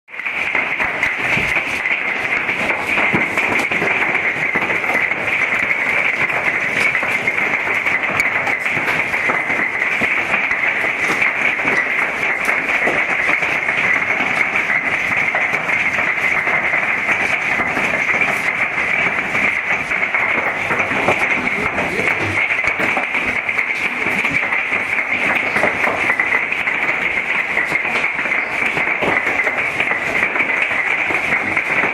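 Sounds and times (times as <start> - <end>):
hail pelting down: 0.1 - 31.9.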